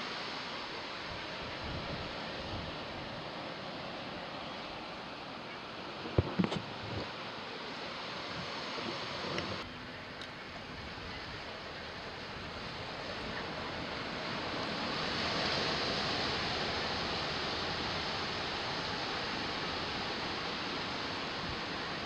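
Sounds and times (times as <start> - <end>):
waves breaking: 0.0 - 22.0.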